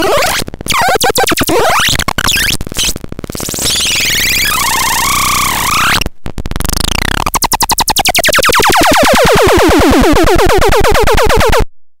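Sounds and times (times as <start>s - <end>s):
electronic noise box chirps: 0.0s - 6.0s, 6.9s - 11.4s.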